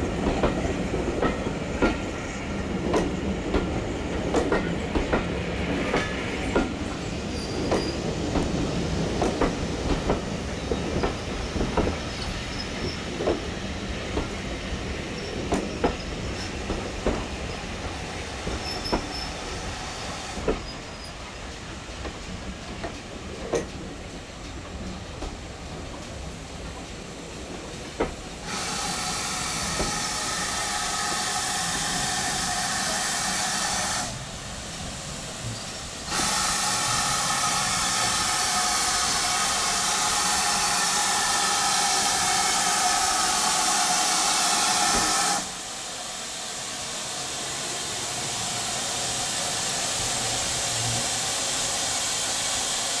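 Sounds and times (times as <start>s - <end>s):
steam locomotive venting steam: 0.0s - 53.0s.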